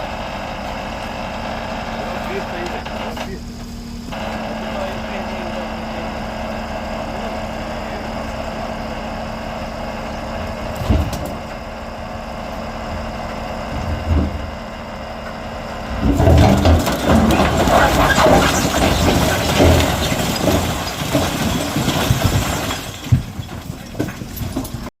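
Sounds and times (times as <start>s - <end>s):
vehicle driving rough rumble: 0.0s - 24.9s
vehicle engine idling: 0.0s - 24.9s.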